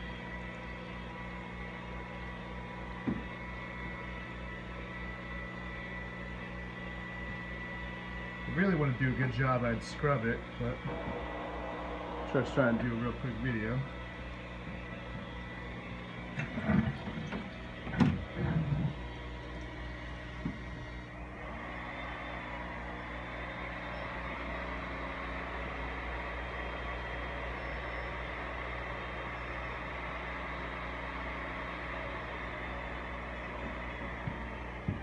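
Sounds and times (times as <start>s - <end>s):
water pump running: 0.0s - 35.0s.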